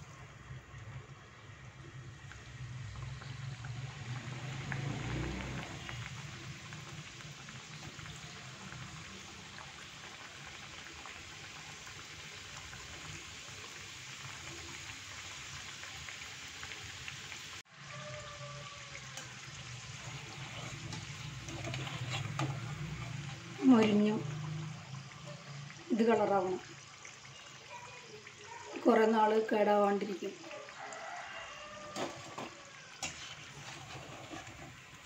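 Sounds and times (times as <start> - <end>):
pastries sizzling in hot oil: 0.0 - 35.0.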